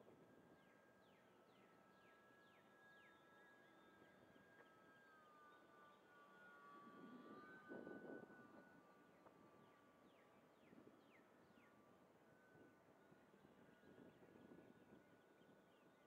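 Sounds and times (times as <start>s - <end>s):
electric model plane motor whine: 0.0s - 16.0s.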